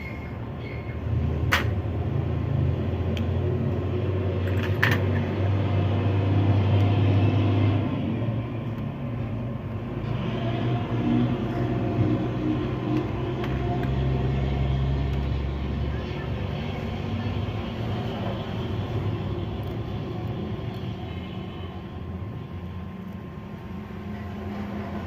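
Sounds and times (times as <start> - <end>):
low engine-like rumble: 0.0 - 25.0.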